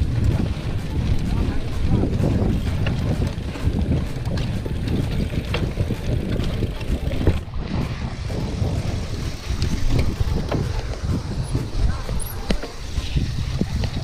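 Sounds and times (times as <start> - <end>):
bike rattling over rough ground: 0.0 - 14.0
wind buffeting microphone: 0.0 - 14.0.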